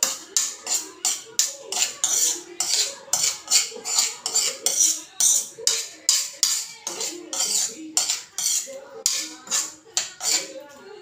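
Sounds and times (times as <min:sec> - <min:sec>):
utensil scraping frying pan: 0:00.0 - 0:10.7.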